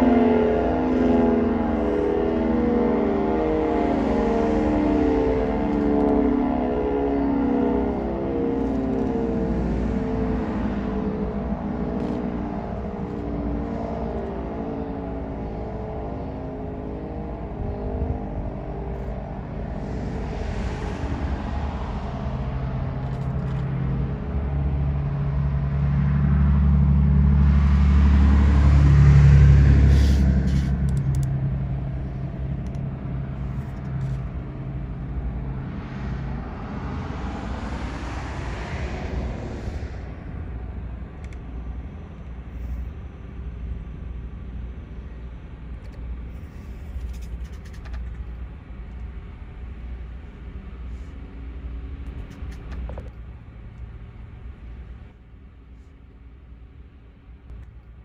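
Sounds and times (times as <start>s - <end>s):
cars passing: 0.0s - 55.2s
pulsing tornado siren: 0.0s - 55.2s
vehicle engine humming: 0.0s - 58.0s.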